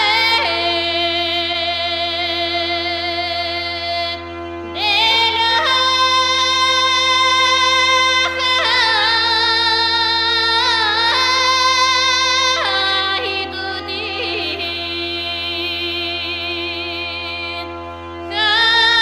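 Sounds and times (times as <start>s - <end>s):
slow melody with vibrato: 0.0s - 19.0s
steady drone note: 0.0s - 19.0s.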